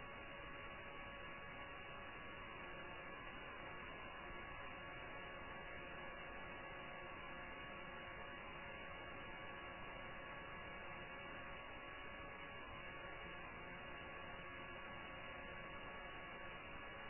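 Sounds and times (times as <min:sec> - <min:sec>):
faint constant tones: 0:00.0 - 0:17.0.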